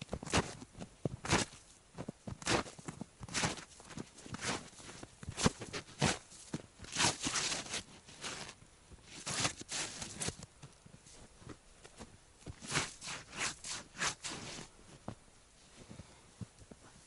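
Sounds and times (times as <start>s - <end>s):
boots crunching in snow: 0.0s - 17.0s.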